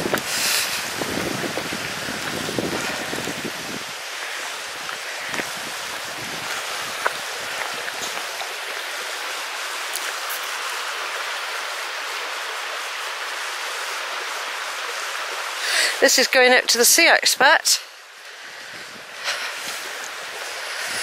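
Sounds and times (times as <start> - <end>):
stream babbling over stones: 0.0 - 21.0.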